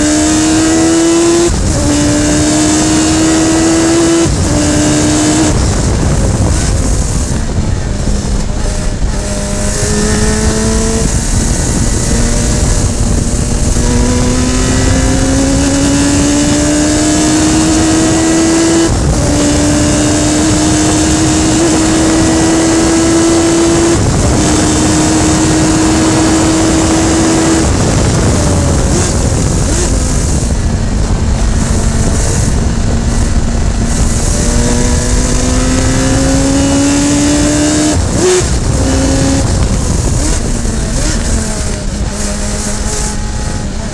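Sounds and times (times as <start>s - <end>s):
race car engine accelerating: 0.0s - 43.9s
wind noise: 0.0s - 43.9s.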